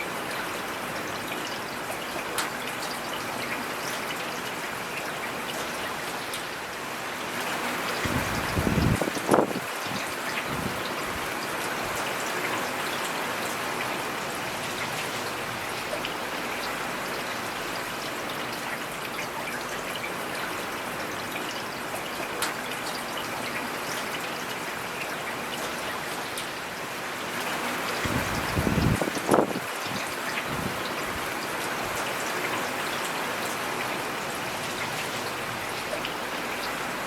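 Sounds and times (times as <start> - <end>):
raindrops ticking close by: 0.0 - 6.6, 7.4 - 37.0
steady rain in a forest: 0.0 - 37.0.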